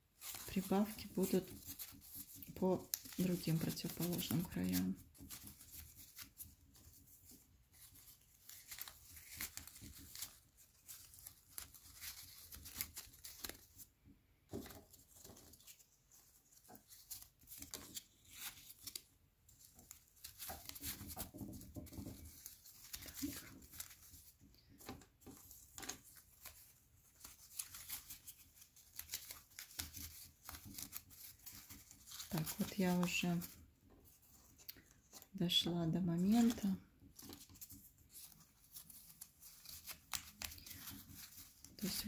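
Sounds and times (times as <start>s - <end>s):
cardboard strips rustling and clicking: 0.2s - 13.9s, 14.5s - 33.6s, 36.2s - 42.0s.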